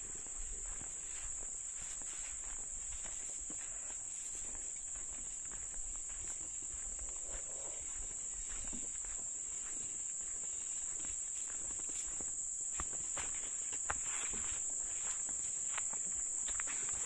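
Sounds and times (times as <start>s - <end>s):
footsteps through brush: 0.0s - 17.0s
insects chirring: 0.0s - 17.0s.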